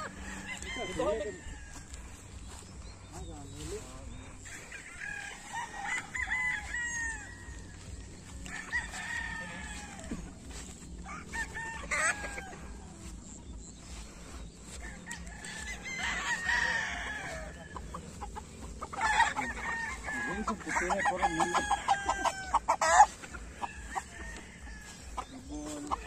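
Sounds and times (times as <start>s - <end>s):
roosters crowing: 0.0s - 26.0s.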